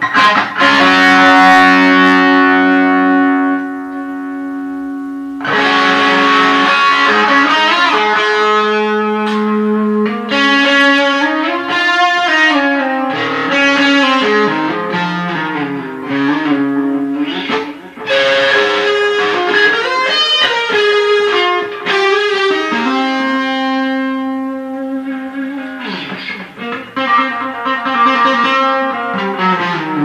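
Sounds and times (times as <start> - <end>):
electric guitar melody: 0.0 - 30.0.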